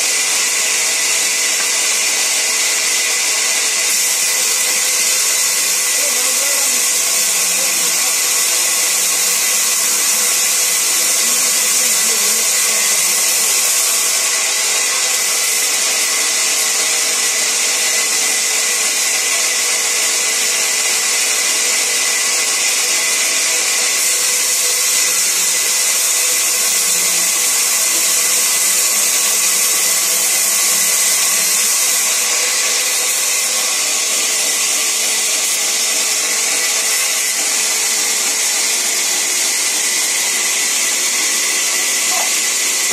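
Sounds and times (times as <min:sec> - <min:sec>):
band saw cutting timber: 0:00.0 - 0:42.9.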